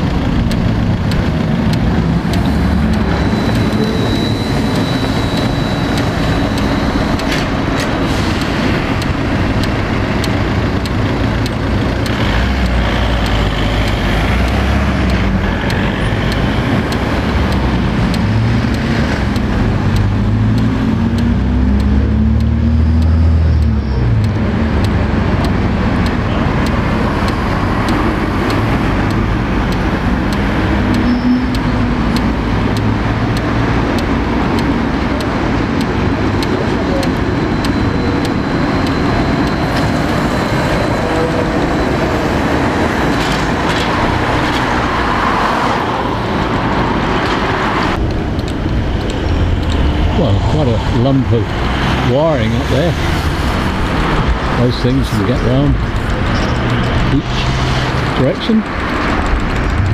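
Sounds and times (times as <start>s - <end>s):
cars and buses passing: 0.0s - 59.9s
heavy vehicle engine: 0.0s - 59.9s.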